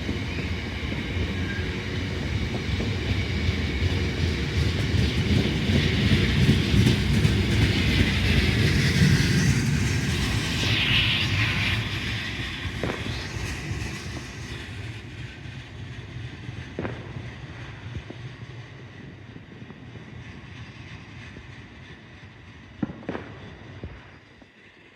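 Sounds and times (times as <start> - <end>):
train rumbling: 0.0 - 24.4.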